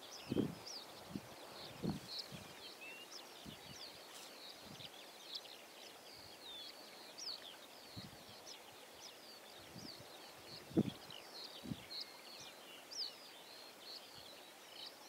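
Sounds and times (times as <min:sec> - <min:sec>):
faint outdoor hiss: 0:00.0 - 0:15.0
small birds chirping: 0:00.0 - 0:15.0.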